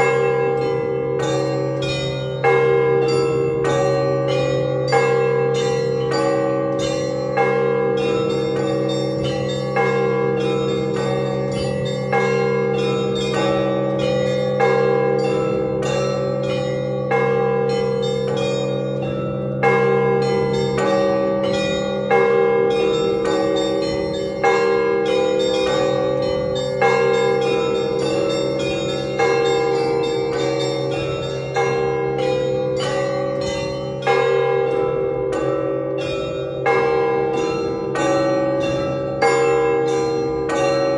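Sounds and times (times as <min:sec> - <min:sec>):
heavy church bell striking: 0:00.0 - 0:40.9
smaller higher bells ringing: 0:00.0 - 0:40.9.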